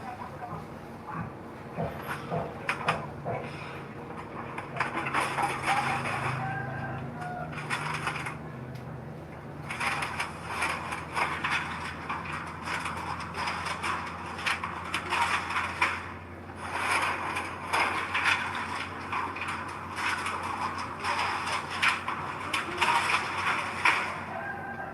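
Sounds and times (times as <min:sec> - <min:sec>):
bulldozer engine hum: 0:00.0 - 0:24.9
tracks and blade clattering: 0:01.2 - 0:24.9.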